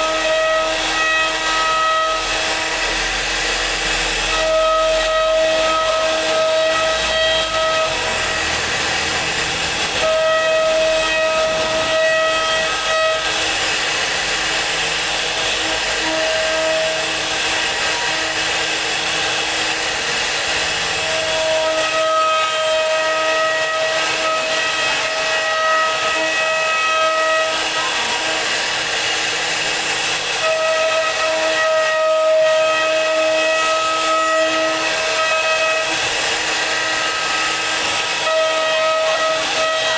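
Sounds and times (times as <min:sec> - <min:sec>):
cnc router cutting wood: 0:00.0 - 0:39.9
high whine: 0:00.0 - 0:39.9.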